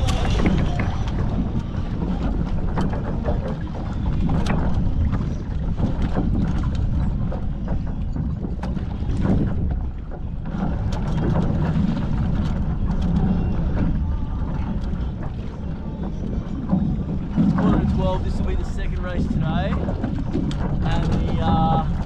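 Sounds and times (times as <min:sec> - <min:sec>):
short splashes and knocks: 0:00.0 - 0:22.0
water slapping against hulls: 0:00.0 - 0:22.0
wind buffeting microphone: 0:00.0 - 0:22.0.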